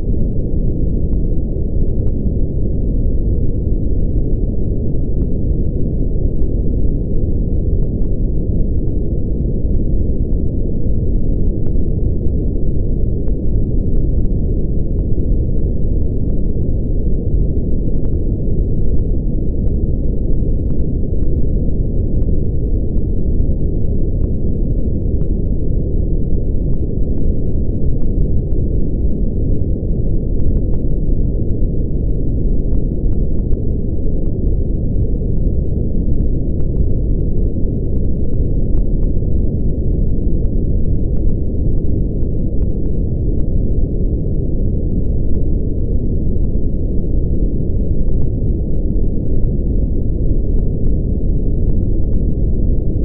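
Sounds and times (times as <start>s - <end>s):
brown noise rumble: 0.0s - 53.0s.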